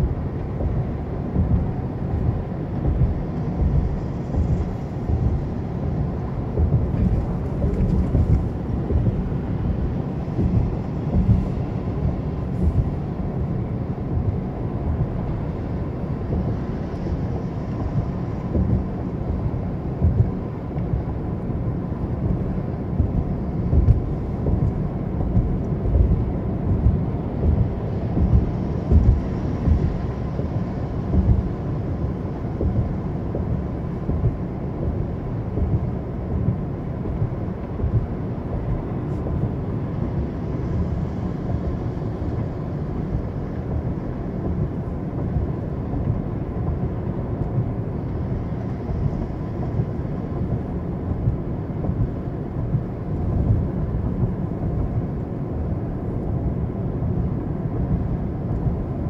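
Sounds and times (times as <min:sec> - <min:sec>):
car engine: 0:00.0 - 0:59.0
tyre and road noise: 0:00.0 - 0:59.0.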